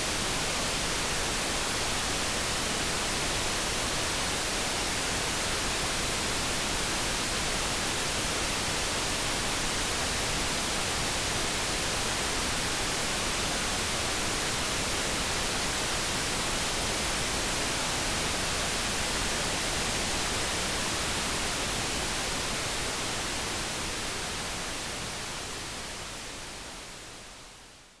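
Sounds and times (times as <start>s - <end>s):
brown noise hiss: 0.0s - 28.0s.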